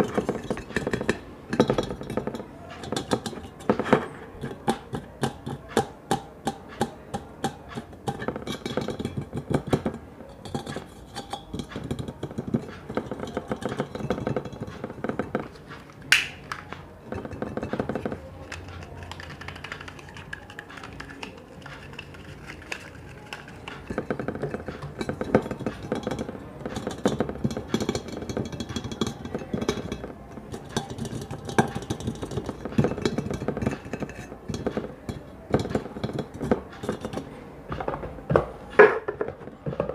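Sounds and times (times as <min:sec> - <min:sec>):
fingertip tapping on hard objects: 0:00.0 - 0:39.9.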